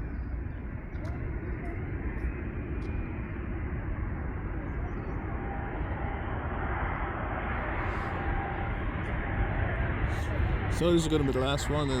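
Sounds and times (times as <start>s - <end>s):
faint steady whine: 0.0s - 12.0s
jet engines rumbling: 0.0s - 12.0s.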